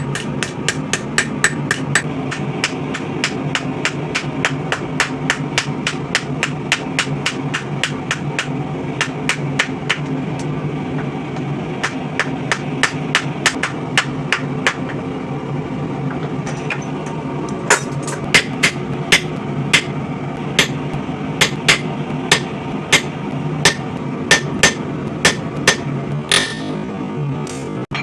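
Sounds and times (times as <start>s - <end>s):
hammer striking hot steel on anvil: 0.0s - 15.0s, 17.7s - 26.8s
low hum: 0.0s - 28.0s.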